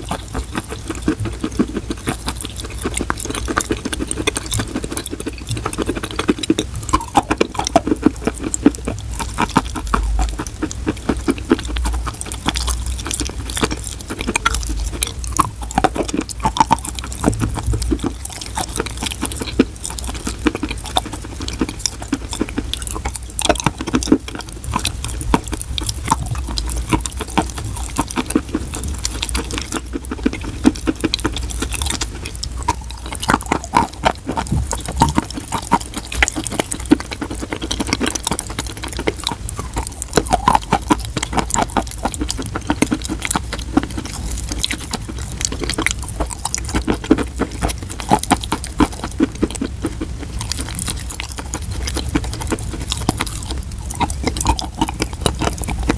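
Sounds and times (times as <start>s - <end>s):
chalk crunching while chewed: 0.0s - 55.9s
wet mouth sounds: 0.0s - 55.9s.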